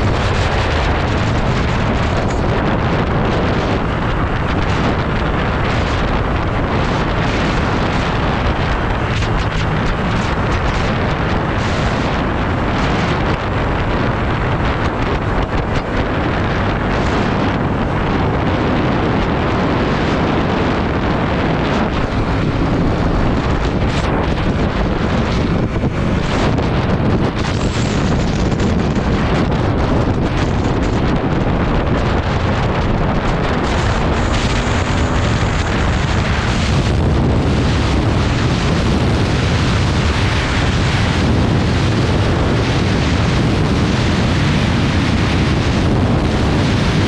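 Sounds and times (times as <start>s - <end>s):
motorcycle engine: 0.0s - 47.0s
road noise: 0.0s - 47.0s
wind buffeting microphone: 0.0s - 47.0s.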